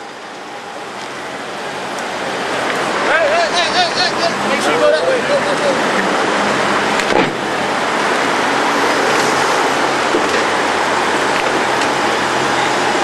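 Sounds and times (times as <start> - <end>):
street and crowd noise: 0.0 - 13.0.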